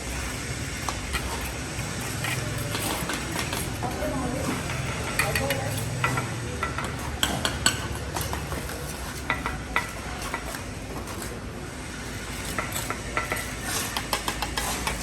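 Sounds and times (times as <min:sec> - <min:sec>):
hand tools clinking and scraping: 0:00.0 - 0:15.0.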